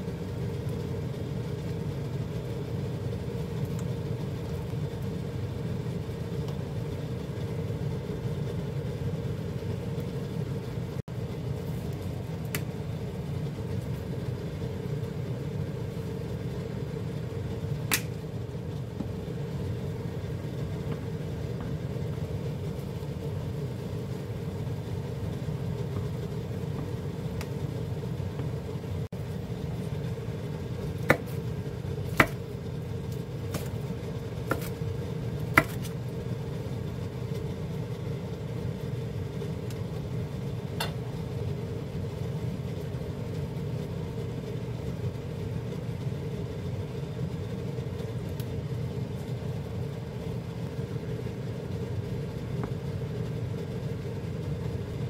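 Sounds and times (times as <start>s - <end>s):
low rumbling hum: 0.0s - 55.0s
stew boiling in a pot: 0.0s - 55.0s.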